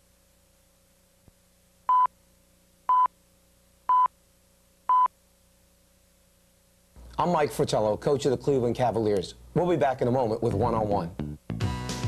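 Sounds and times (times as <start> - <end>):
faint steady hum: 0.0 - 11.7.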